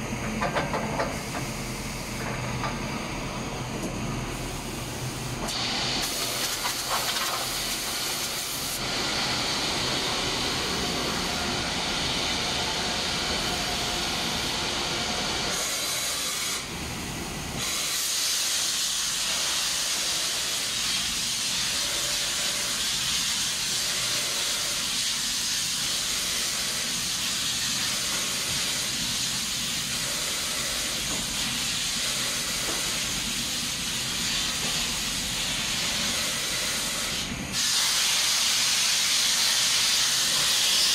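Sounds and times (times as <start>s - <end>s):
compressed air hissing: 4.4s - 40.9s.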